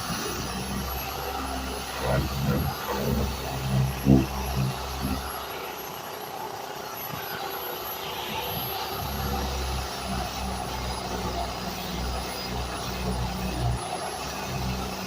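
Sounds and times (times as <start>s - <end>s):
power sander whirring: 0.0s - 15.0s.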